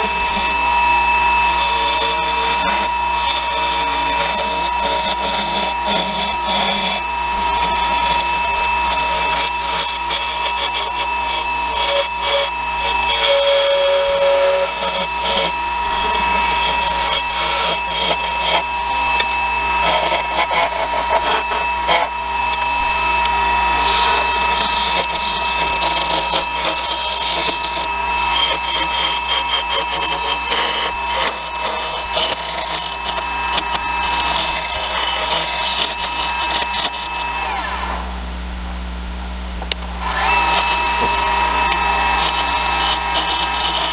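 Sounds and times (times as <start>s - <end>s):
turning tool cutting wood: 0.0s - 38.2s, 40.0s - 43.9s
wood lathe whining: 0.0s - 38.2s, 39.7s - 43.9s.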